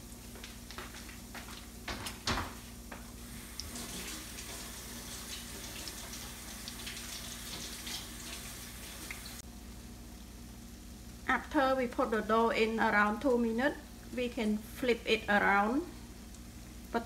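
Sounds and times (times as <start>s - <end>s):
dough deep-frying in oil: 0.0s - 17.0s.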